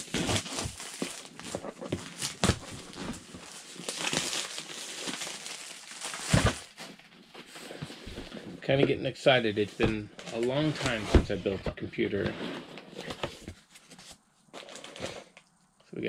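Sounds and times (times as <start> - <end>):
wrapping rustling and crinkling: 0.0 - 8.6, 9.5 - 11.6, 12.8 - 15.5.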